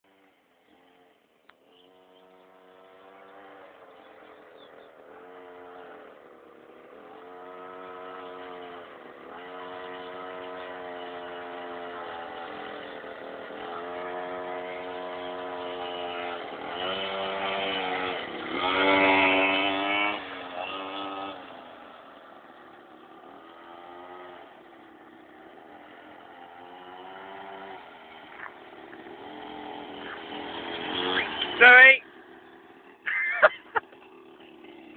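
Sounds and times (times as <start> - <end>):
quad bike engine running: 0.1 - 34.9.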